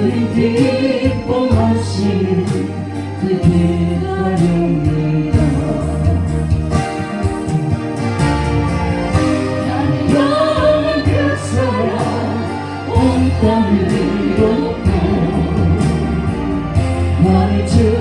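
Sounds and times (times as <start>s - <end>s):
gospel song accompaniment with beat: 0.0s - 18.0s.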